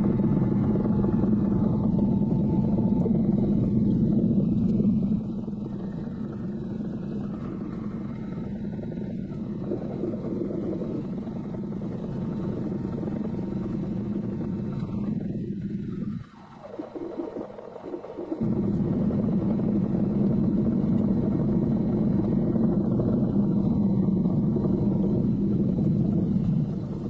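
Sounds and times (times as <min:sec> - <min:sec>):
heavy diesel engine running: 0:00.0 - 0:16.2, 0:18.3 - 0:27.0.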